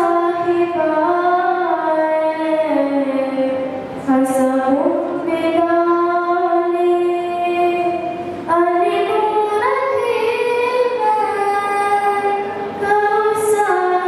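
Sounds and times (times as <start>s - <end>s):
girl singing into a microphone: 0.0s - 14.0s.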